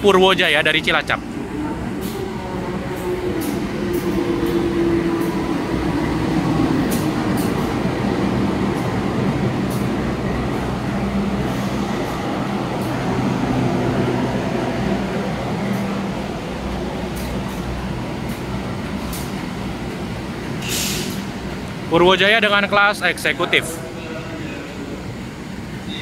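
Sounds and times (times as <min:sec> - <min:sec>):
locomotive engine drone: 0:00.0 - 0:26.0.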